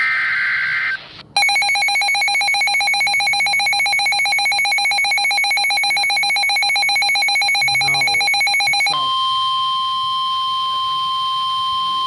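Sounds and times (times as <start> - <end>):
pulsing electronic alarm tone: 1.4 - 12.0.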